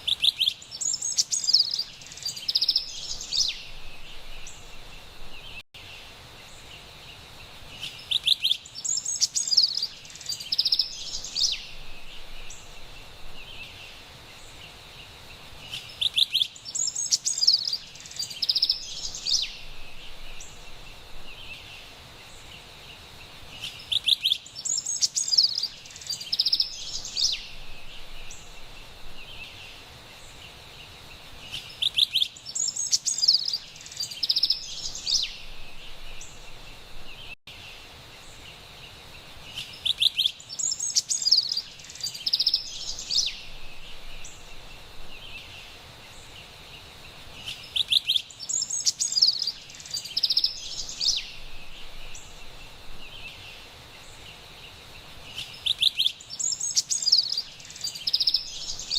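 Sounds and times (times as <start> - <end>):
wren singing: 0.0 - 5.6, 7.7 - 14.8, 15.6 - 22.6, 23.5 - 37.4, 39.5 - 58.9
forest ambience hiss: 0.0 - 58.9.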